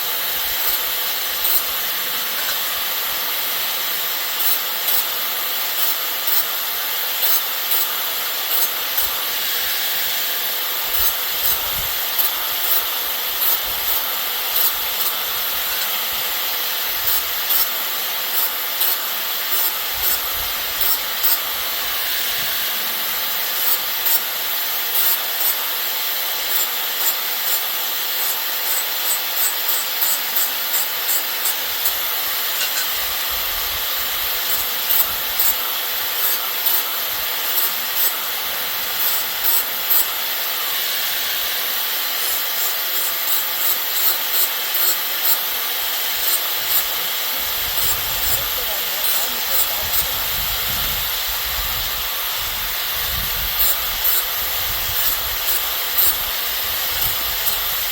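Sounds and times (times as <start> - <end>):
rasping strokes on wood: 0.4 - 10.0, 10.8 - 25.6, 26.5 - 57.9.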